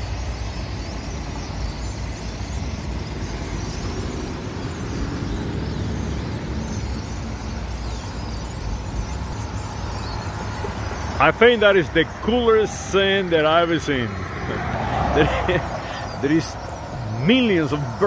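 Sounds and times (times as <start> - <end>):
flock of birds chattering: 0.0 - 18.0.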